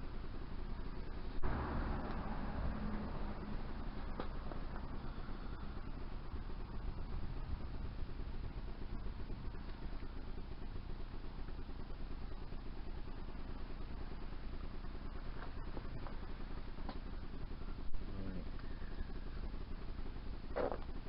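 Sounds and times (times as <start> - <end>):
low rumbling background noise: 0.0 - 21.0.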